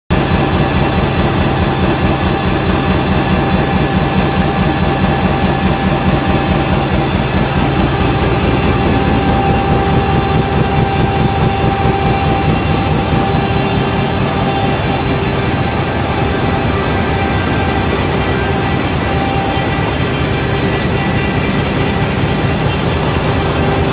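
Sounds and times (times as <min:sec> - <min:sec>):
machine mechanical drone: 0:00.1 - 0:23.9
thin steady whine: 0:00.1 - 0:23.9
second steady tone: 0:01.6 - 0:23.9.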